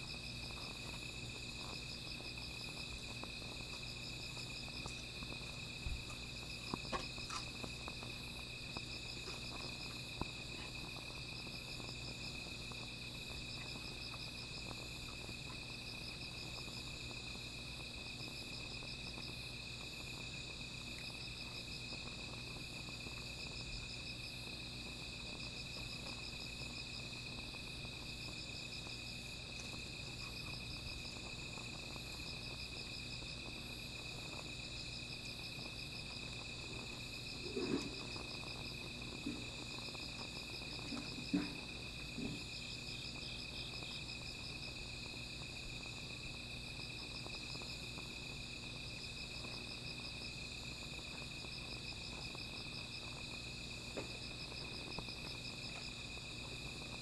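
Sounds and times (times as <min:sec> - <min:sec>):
insects chirping in pulses: 0:00.0 - 0:57.0.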